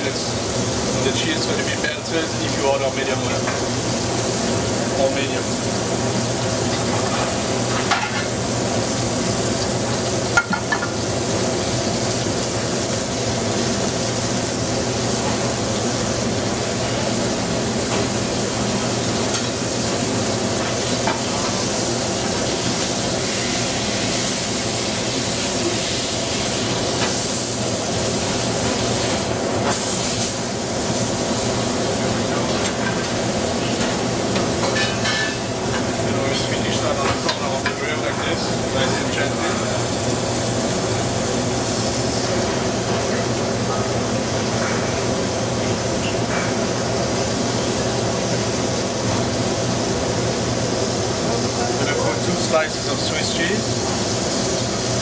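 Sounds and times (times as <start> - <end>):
patties sizzling in a pan: 0.1 - 43.4, 51.8 - 55.0.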